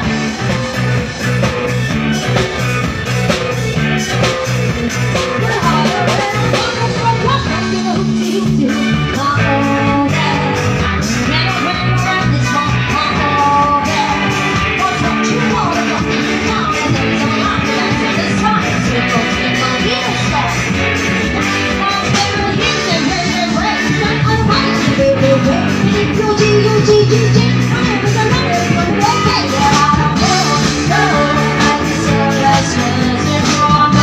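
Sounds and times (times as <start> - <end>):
drum kit beat: 0.0 - 34.0
live band playing disco: 0.0 - 34.0
person singing: 5.2 - 20.8, 21.4 - 34.0.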